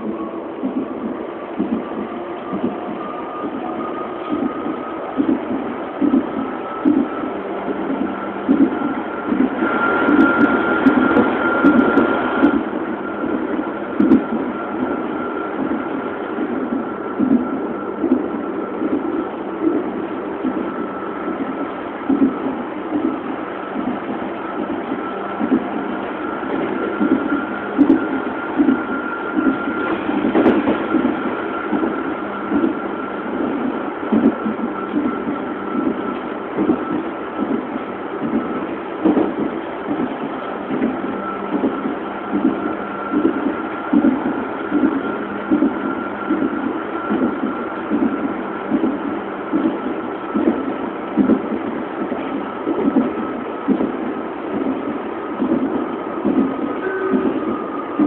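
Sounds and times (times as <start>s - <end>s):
train thumps: 0.0s - 20.7s, 21.3s - 58.0s
steady whine: 0.0s - 58.0s
train wheels rumbling on rails: 0.0s - 58.0s.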